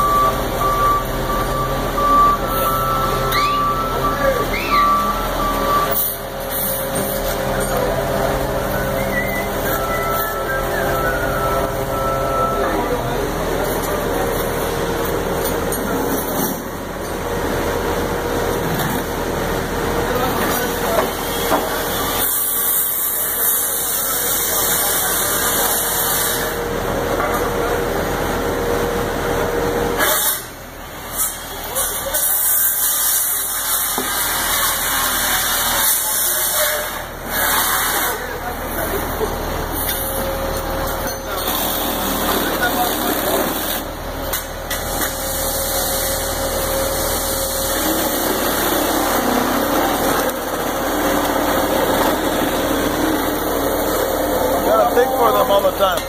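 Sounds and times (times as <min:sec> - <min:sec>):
concrete truck running: 0:00.0 - 0:56.0.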